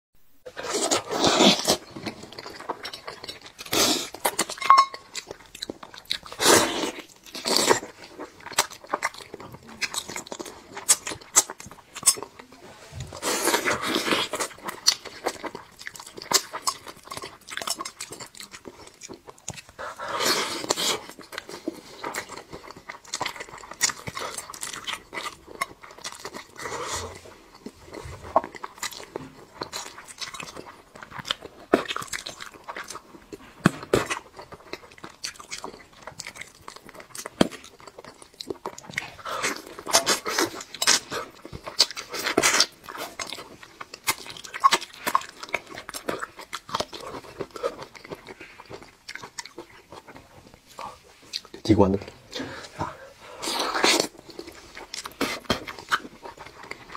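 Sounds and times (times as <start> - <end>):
person chewing: 0.5 - 56.9.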